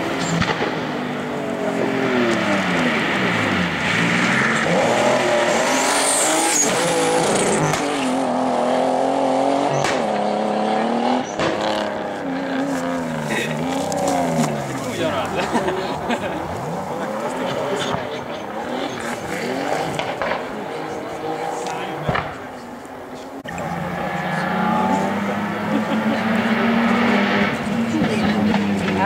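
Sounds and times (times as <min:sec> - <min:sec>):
rally car engines revving: 0:00.0 - 0:29.0.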